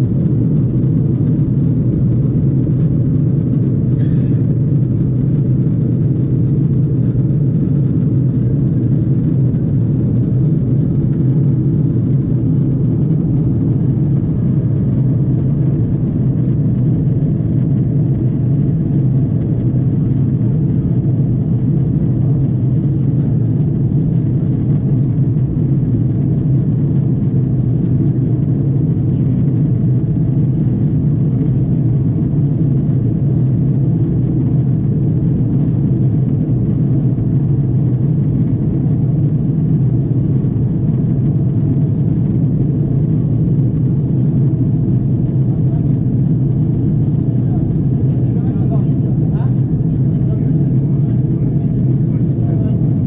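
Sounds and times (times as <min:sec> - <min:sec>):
airliner cabin engine roar: 0:00.0 - 0:53.0.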